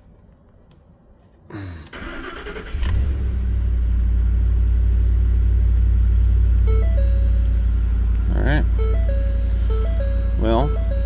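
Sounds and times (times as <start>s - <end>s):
engine cranking and idling: 2.0s - 11.0s.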